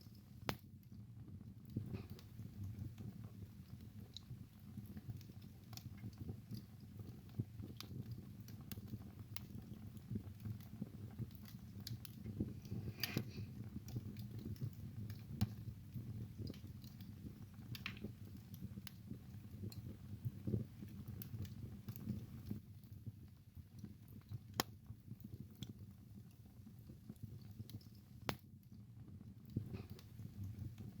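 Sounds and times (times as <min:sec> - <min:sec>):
fire crackling and popping: 0:00.0 - 0:31.0
low rumble of flames: 0:00.0 - 0:31.0.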